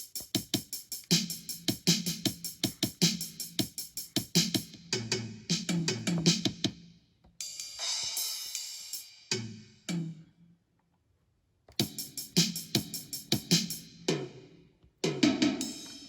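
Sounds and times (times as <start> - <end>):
drum machine beats: 0.0 - 10.2, 11.7 - 14.4, 15.0 - 16.0.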